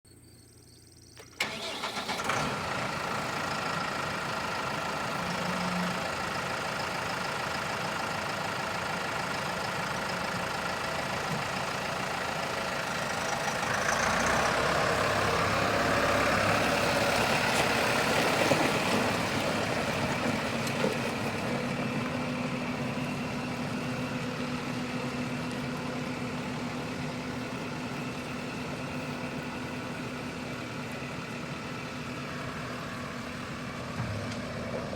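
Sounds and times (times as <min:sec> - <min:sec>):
tractor diesel engine running: 0:01.2 - 0:34.9.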